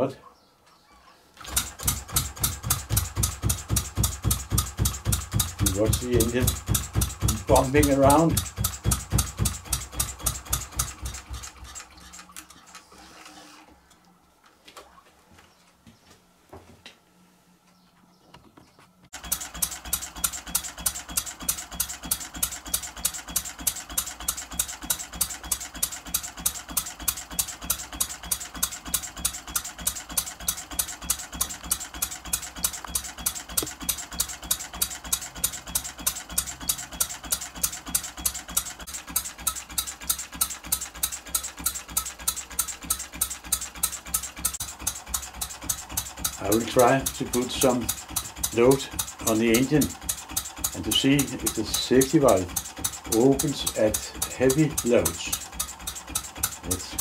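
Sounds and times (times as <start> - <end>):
model diesel engine knocking: 1.5 - 11.6, 19.2 - 57.0.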